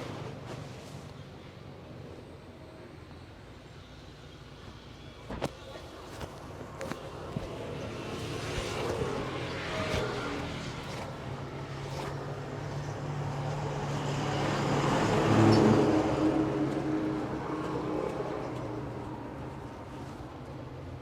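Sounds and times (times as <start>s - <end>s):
low hum of traffic: 0.0s - 21.0s.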